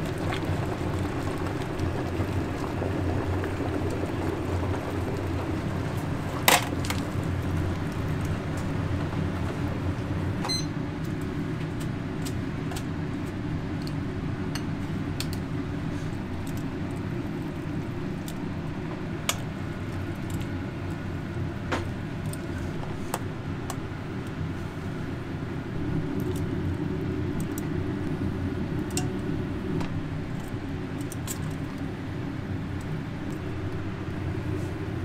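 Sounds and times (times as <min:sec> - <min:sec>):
kitchen equipment humming: 0:00.0 - 0:35.0.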